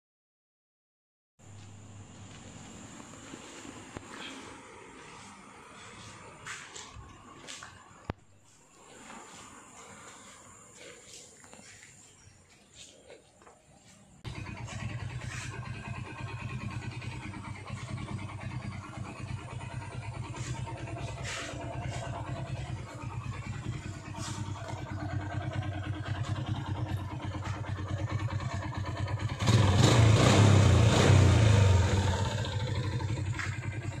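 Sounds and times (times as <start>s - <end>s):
motorcycle engine idling and revving: 1.4s - 34.0s.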